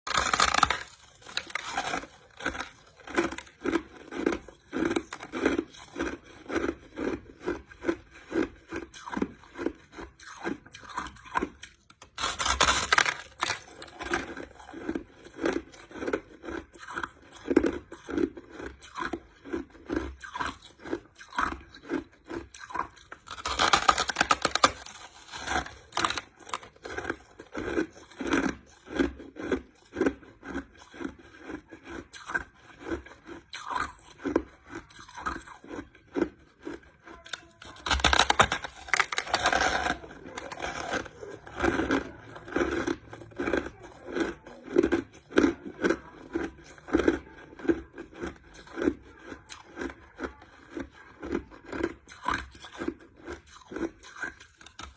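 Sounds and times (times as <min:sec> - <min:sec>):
person crunching ice: 0:00.0 - 0:54.9.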